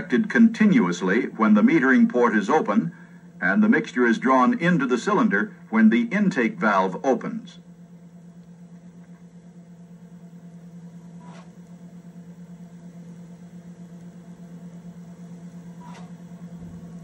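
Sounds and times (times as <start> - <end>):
low electrical hum with hiss: 0.0 - 17.0.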